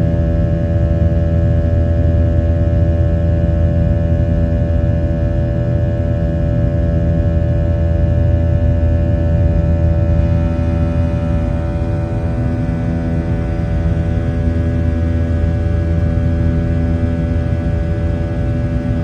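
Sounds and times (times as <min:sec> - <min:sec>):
airplane cabin engine drone: 0:00.0 - 0:19.0.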